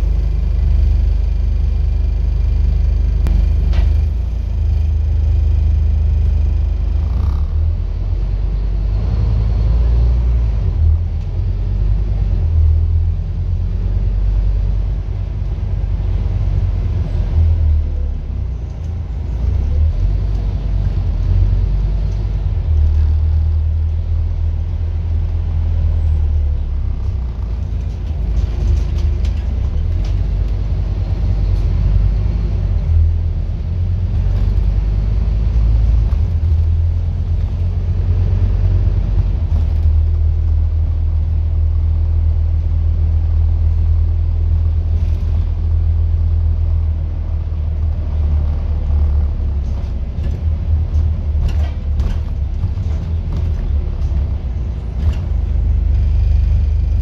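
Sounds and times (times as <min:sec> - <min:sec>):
bus diesel engine rumble: 0:00.0 - 0:57.0.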